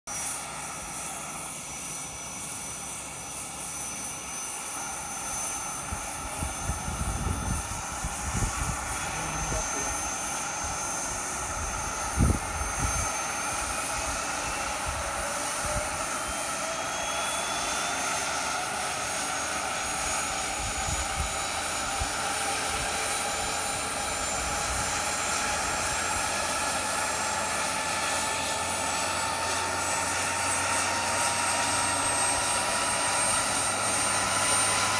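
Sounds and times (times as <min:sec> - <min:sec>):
gas turbine whine: 0:00.1 - 0:34.9.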